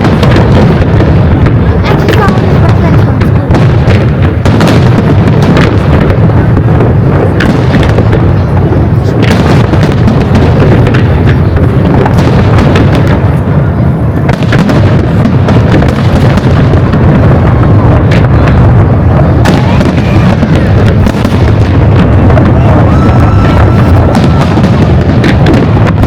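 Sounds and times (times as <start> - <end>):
fireworks bursts rumbling: 0.0 - 26.0
fireworks sharp cracks: 0.0 - 26.0.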